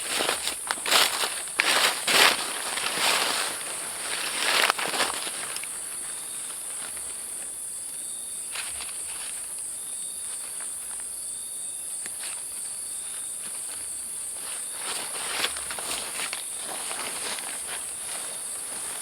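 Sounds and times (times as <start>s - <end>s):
high-pitched insect chorus: 0.0s - 19.0s
insect trill: 0.0s - 19.0s.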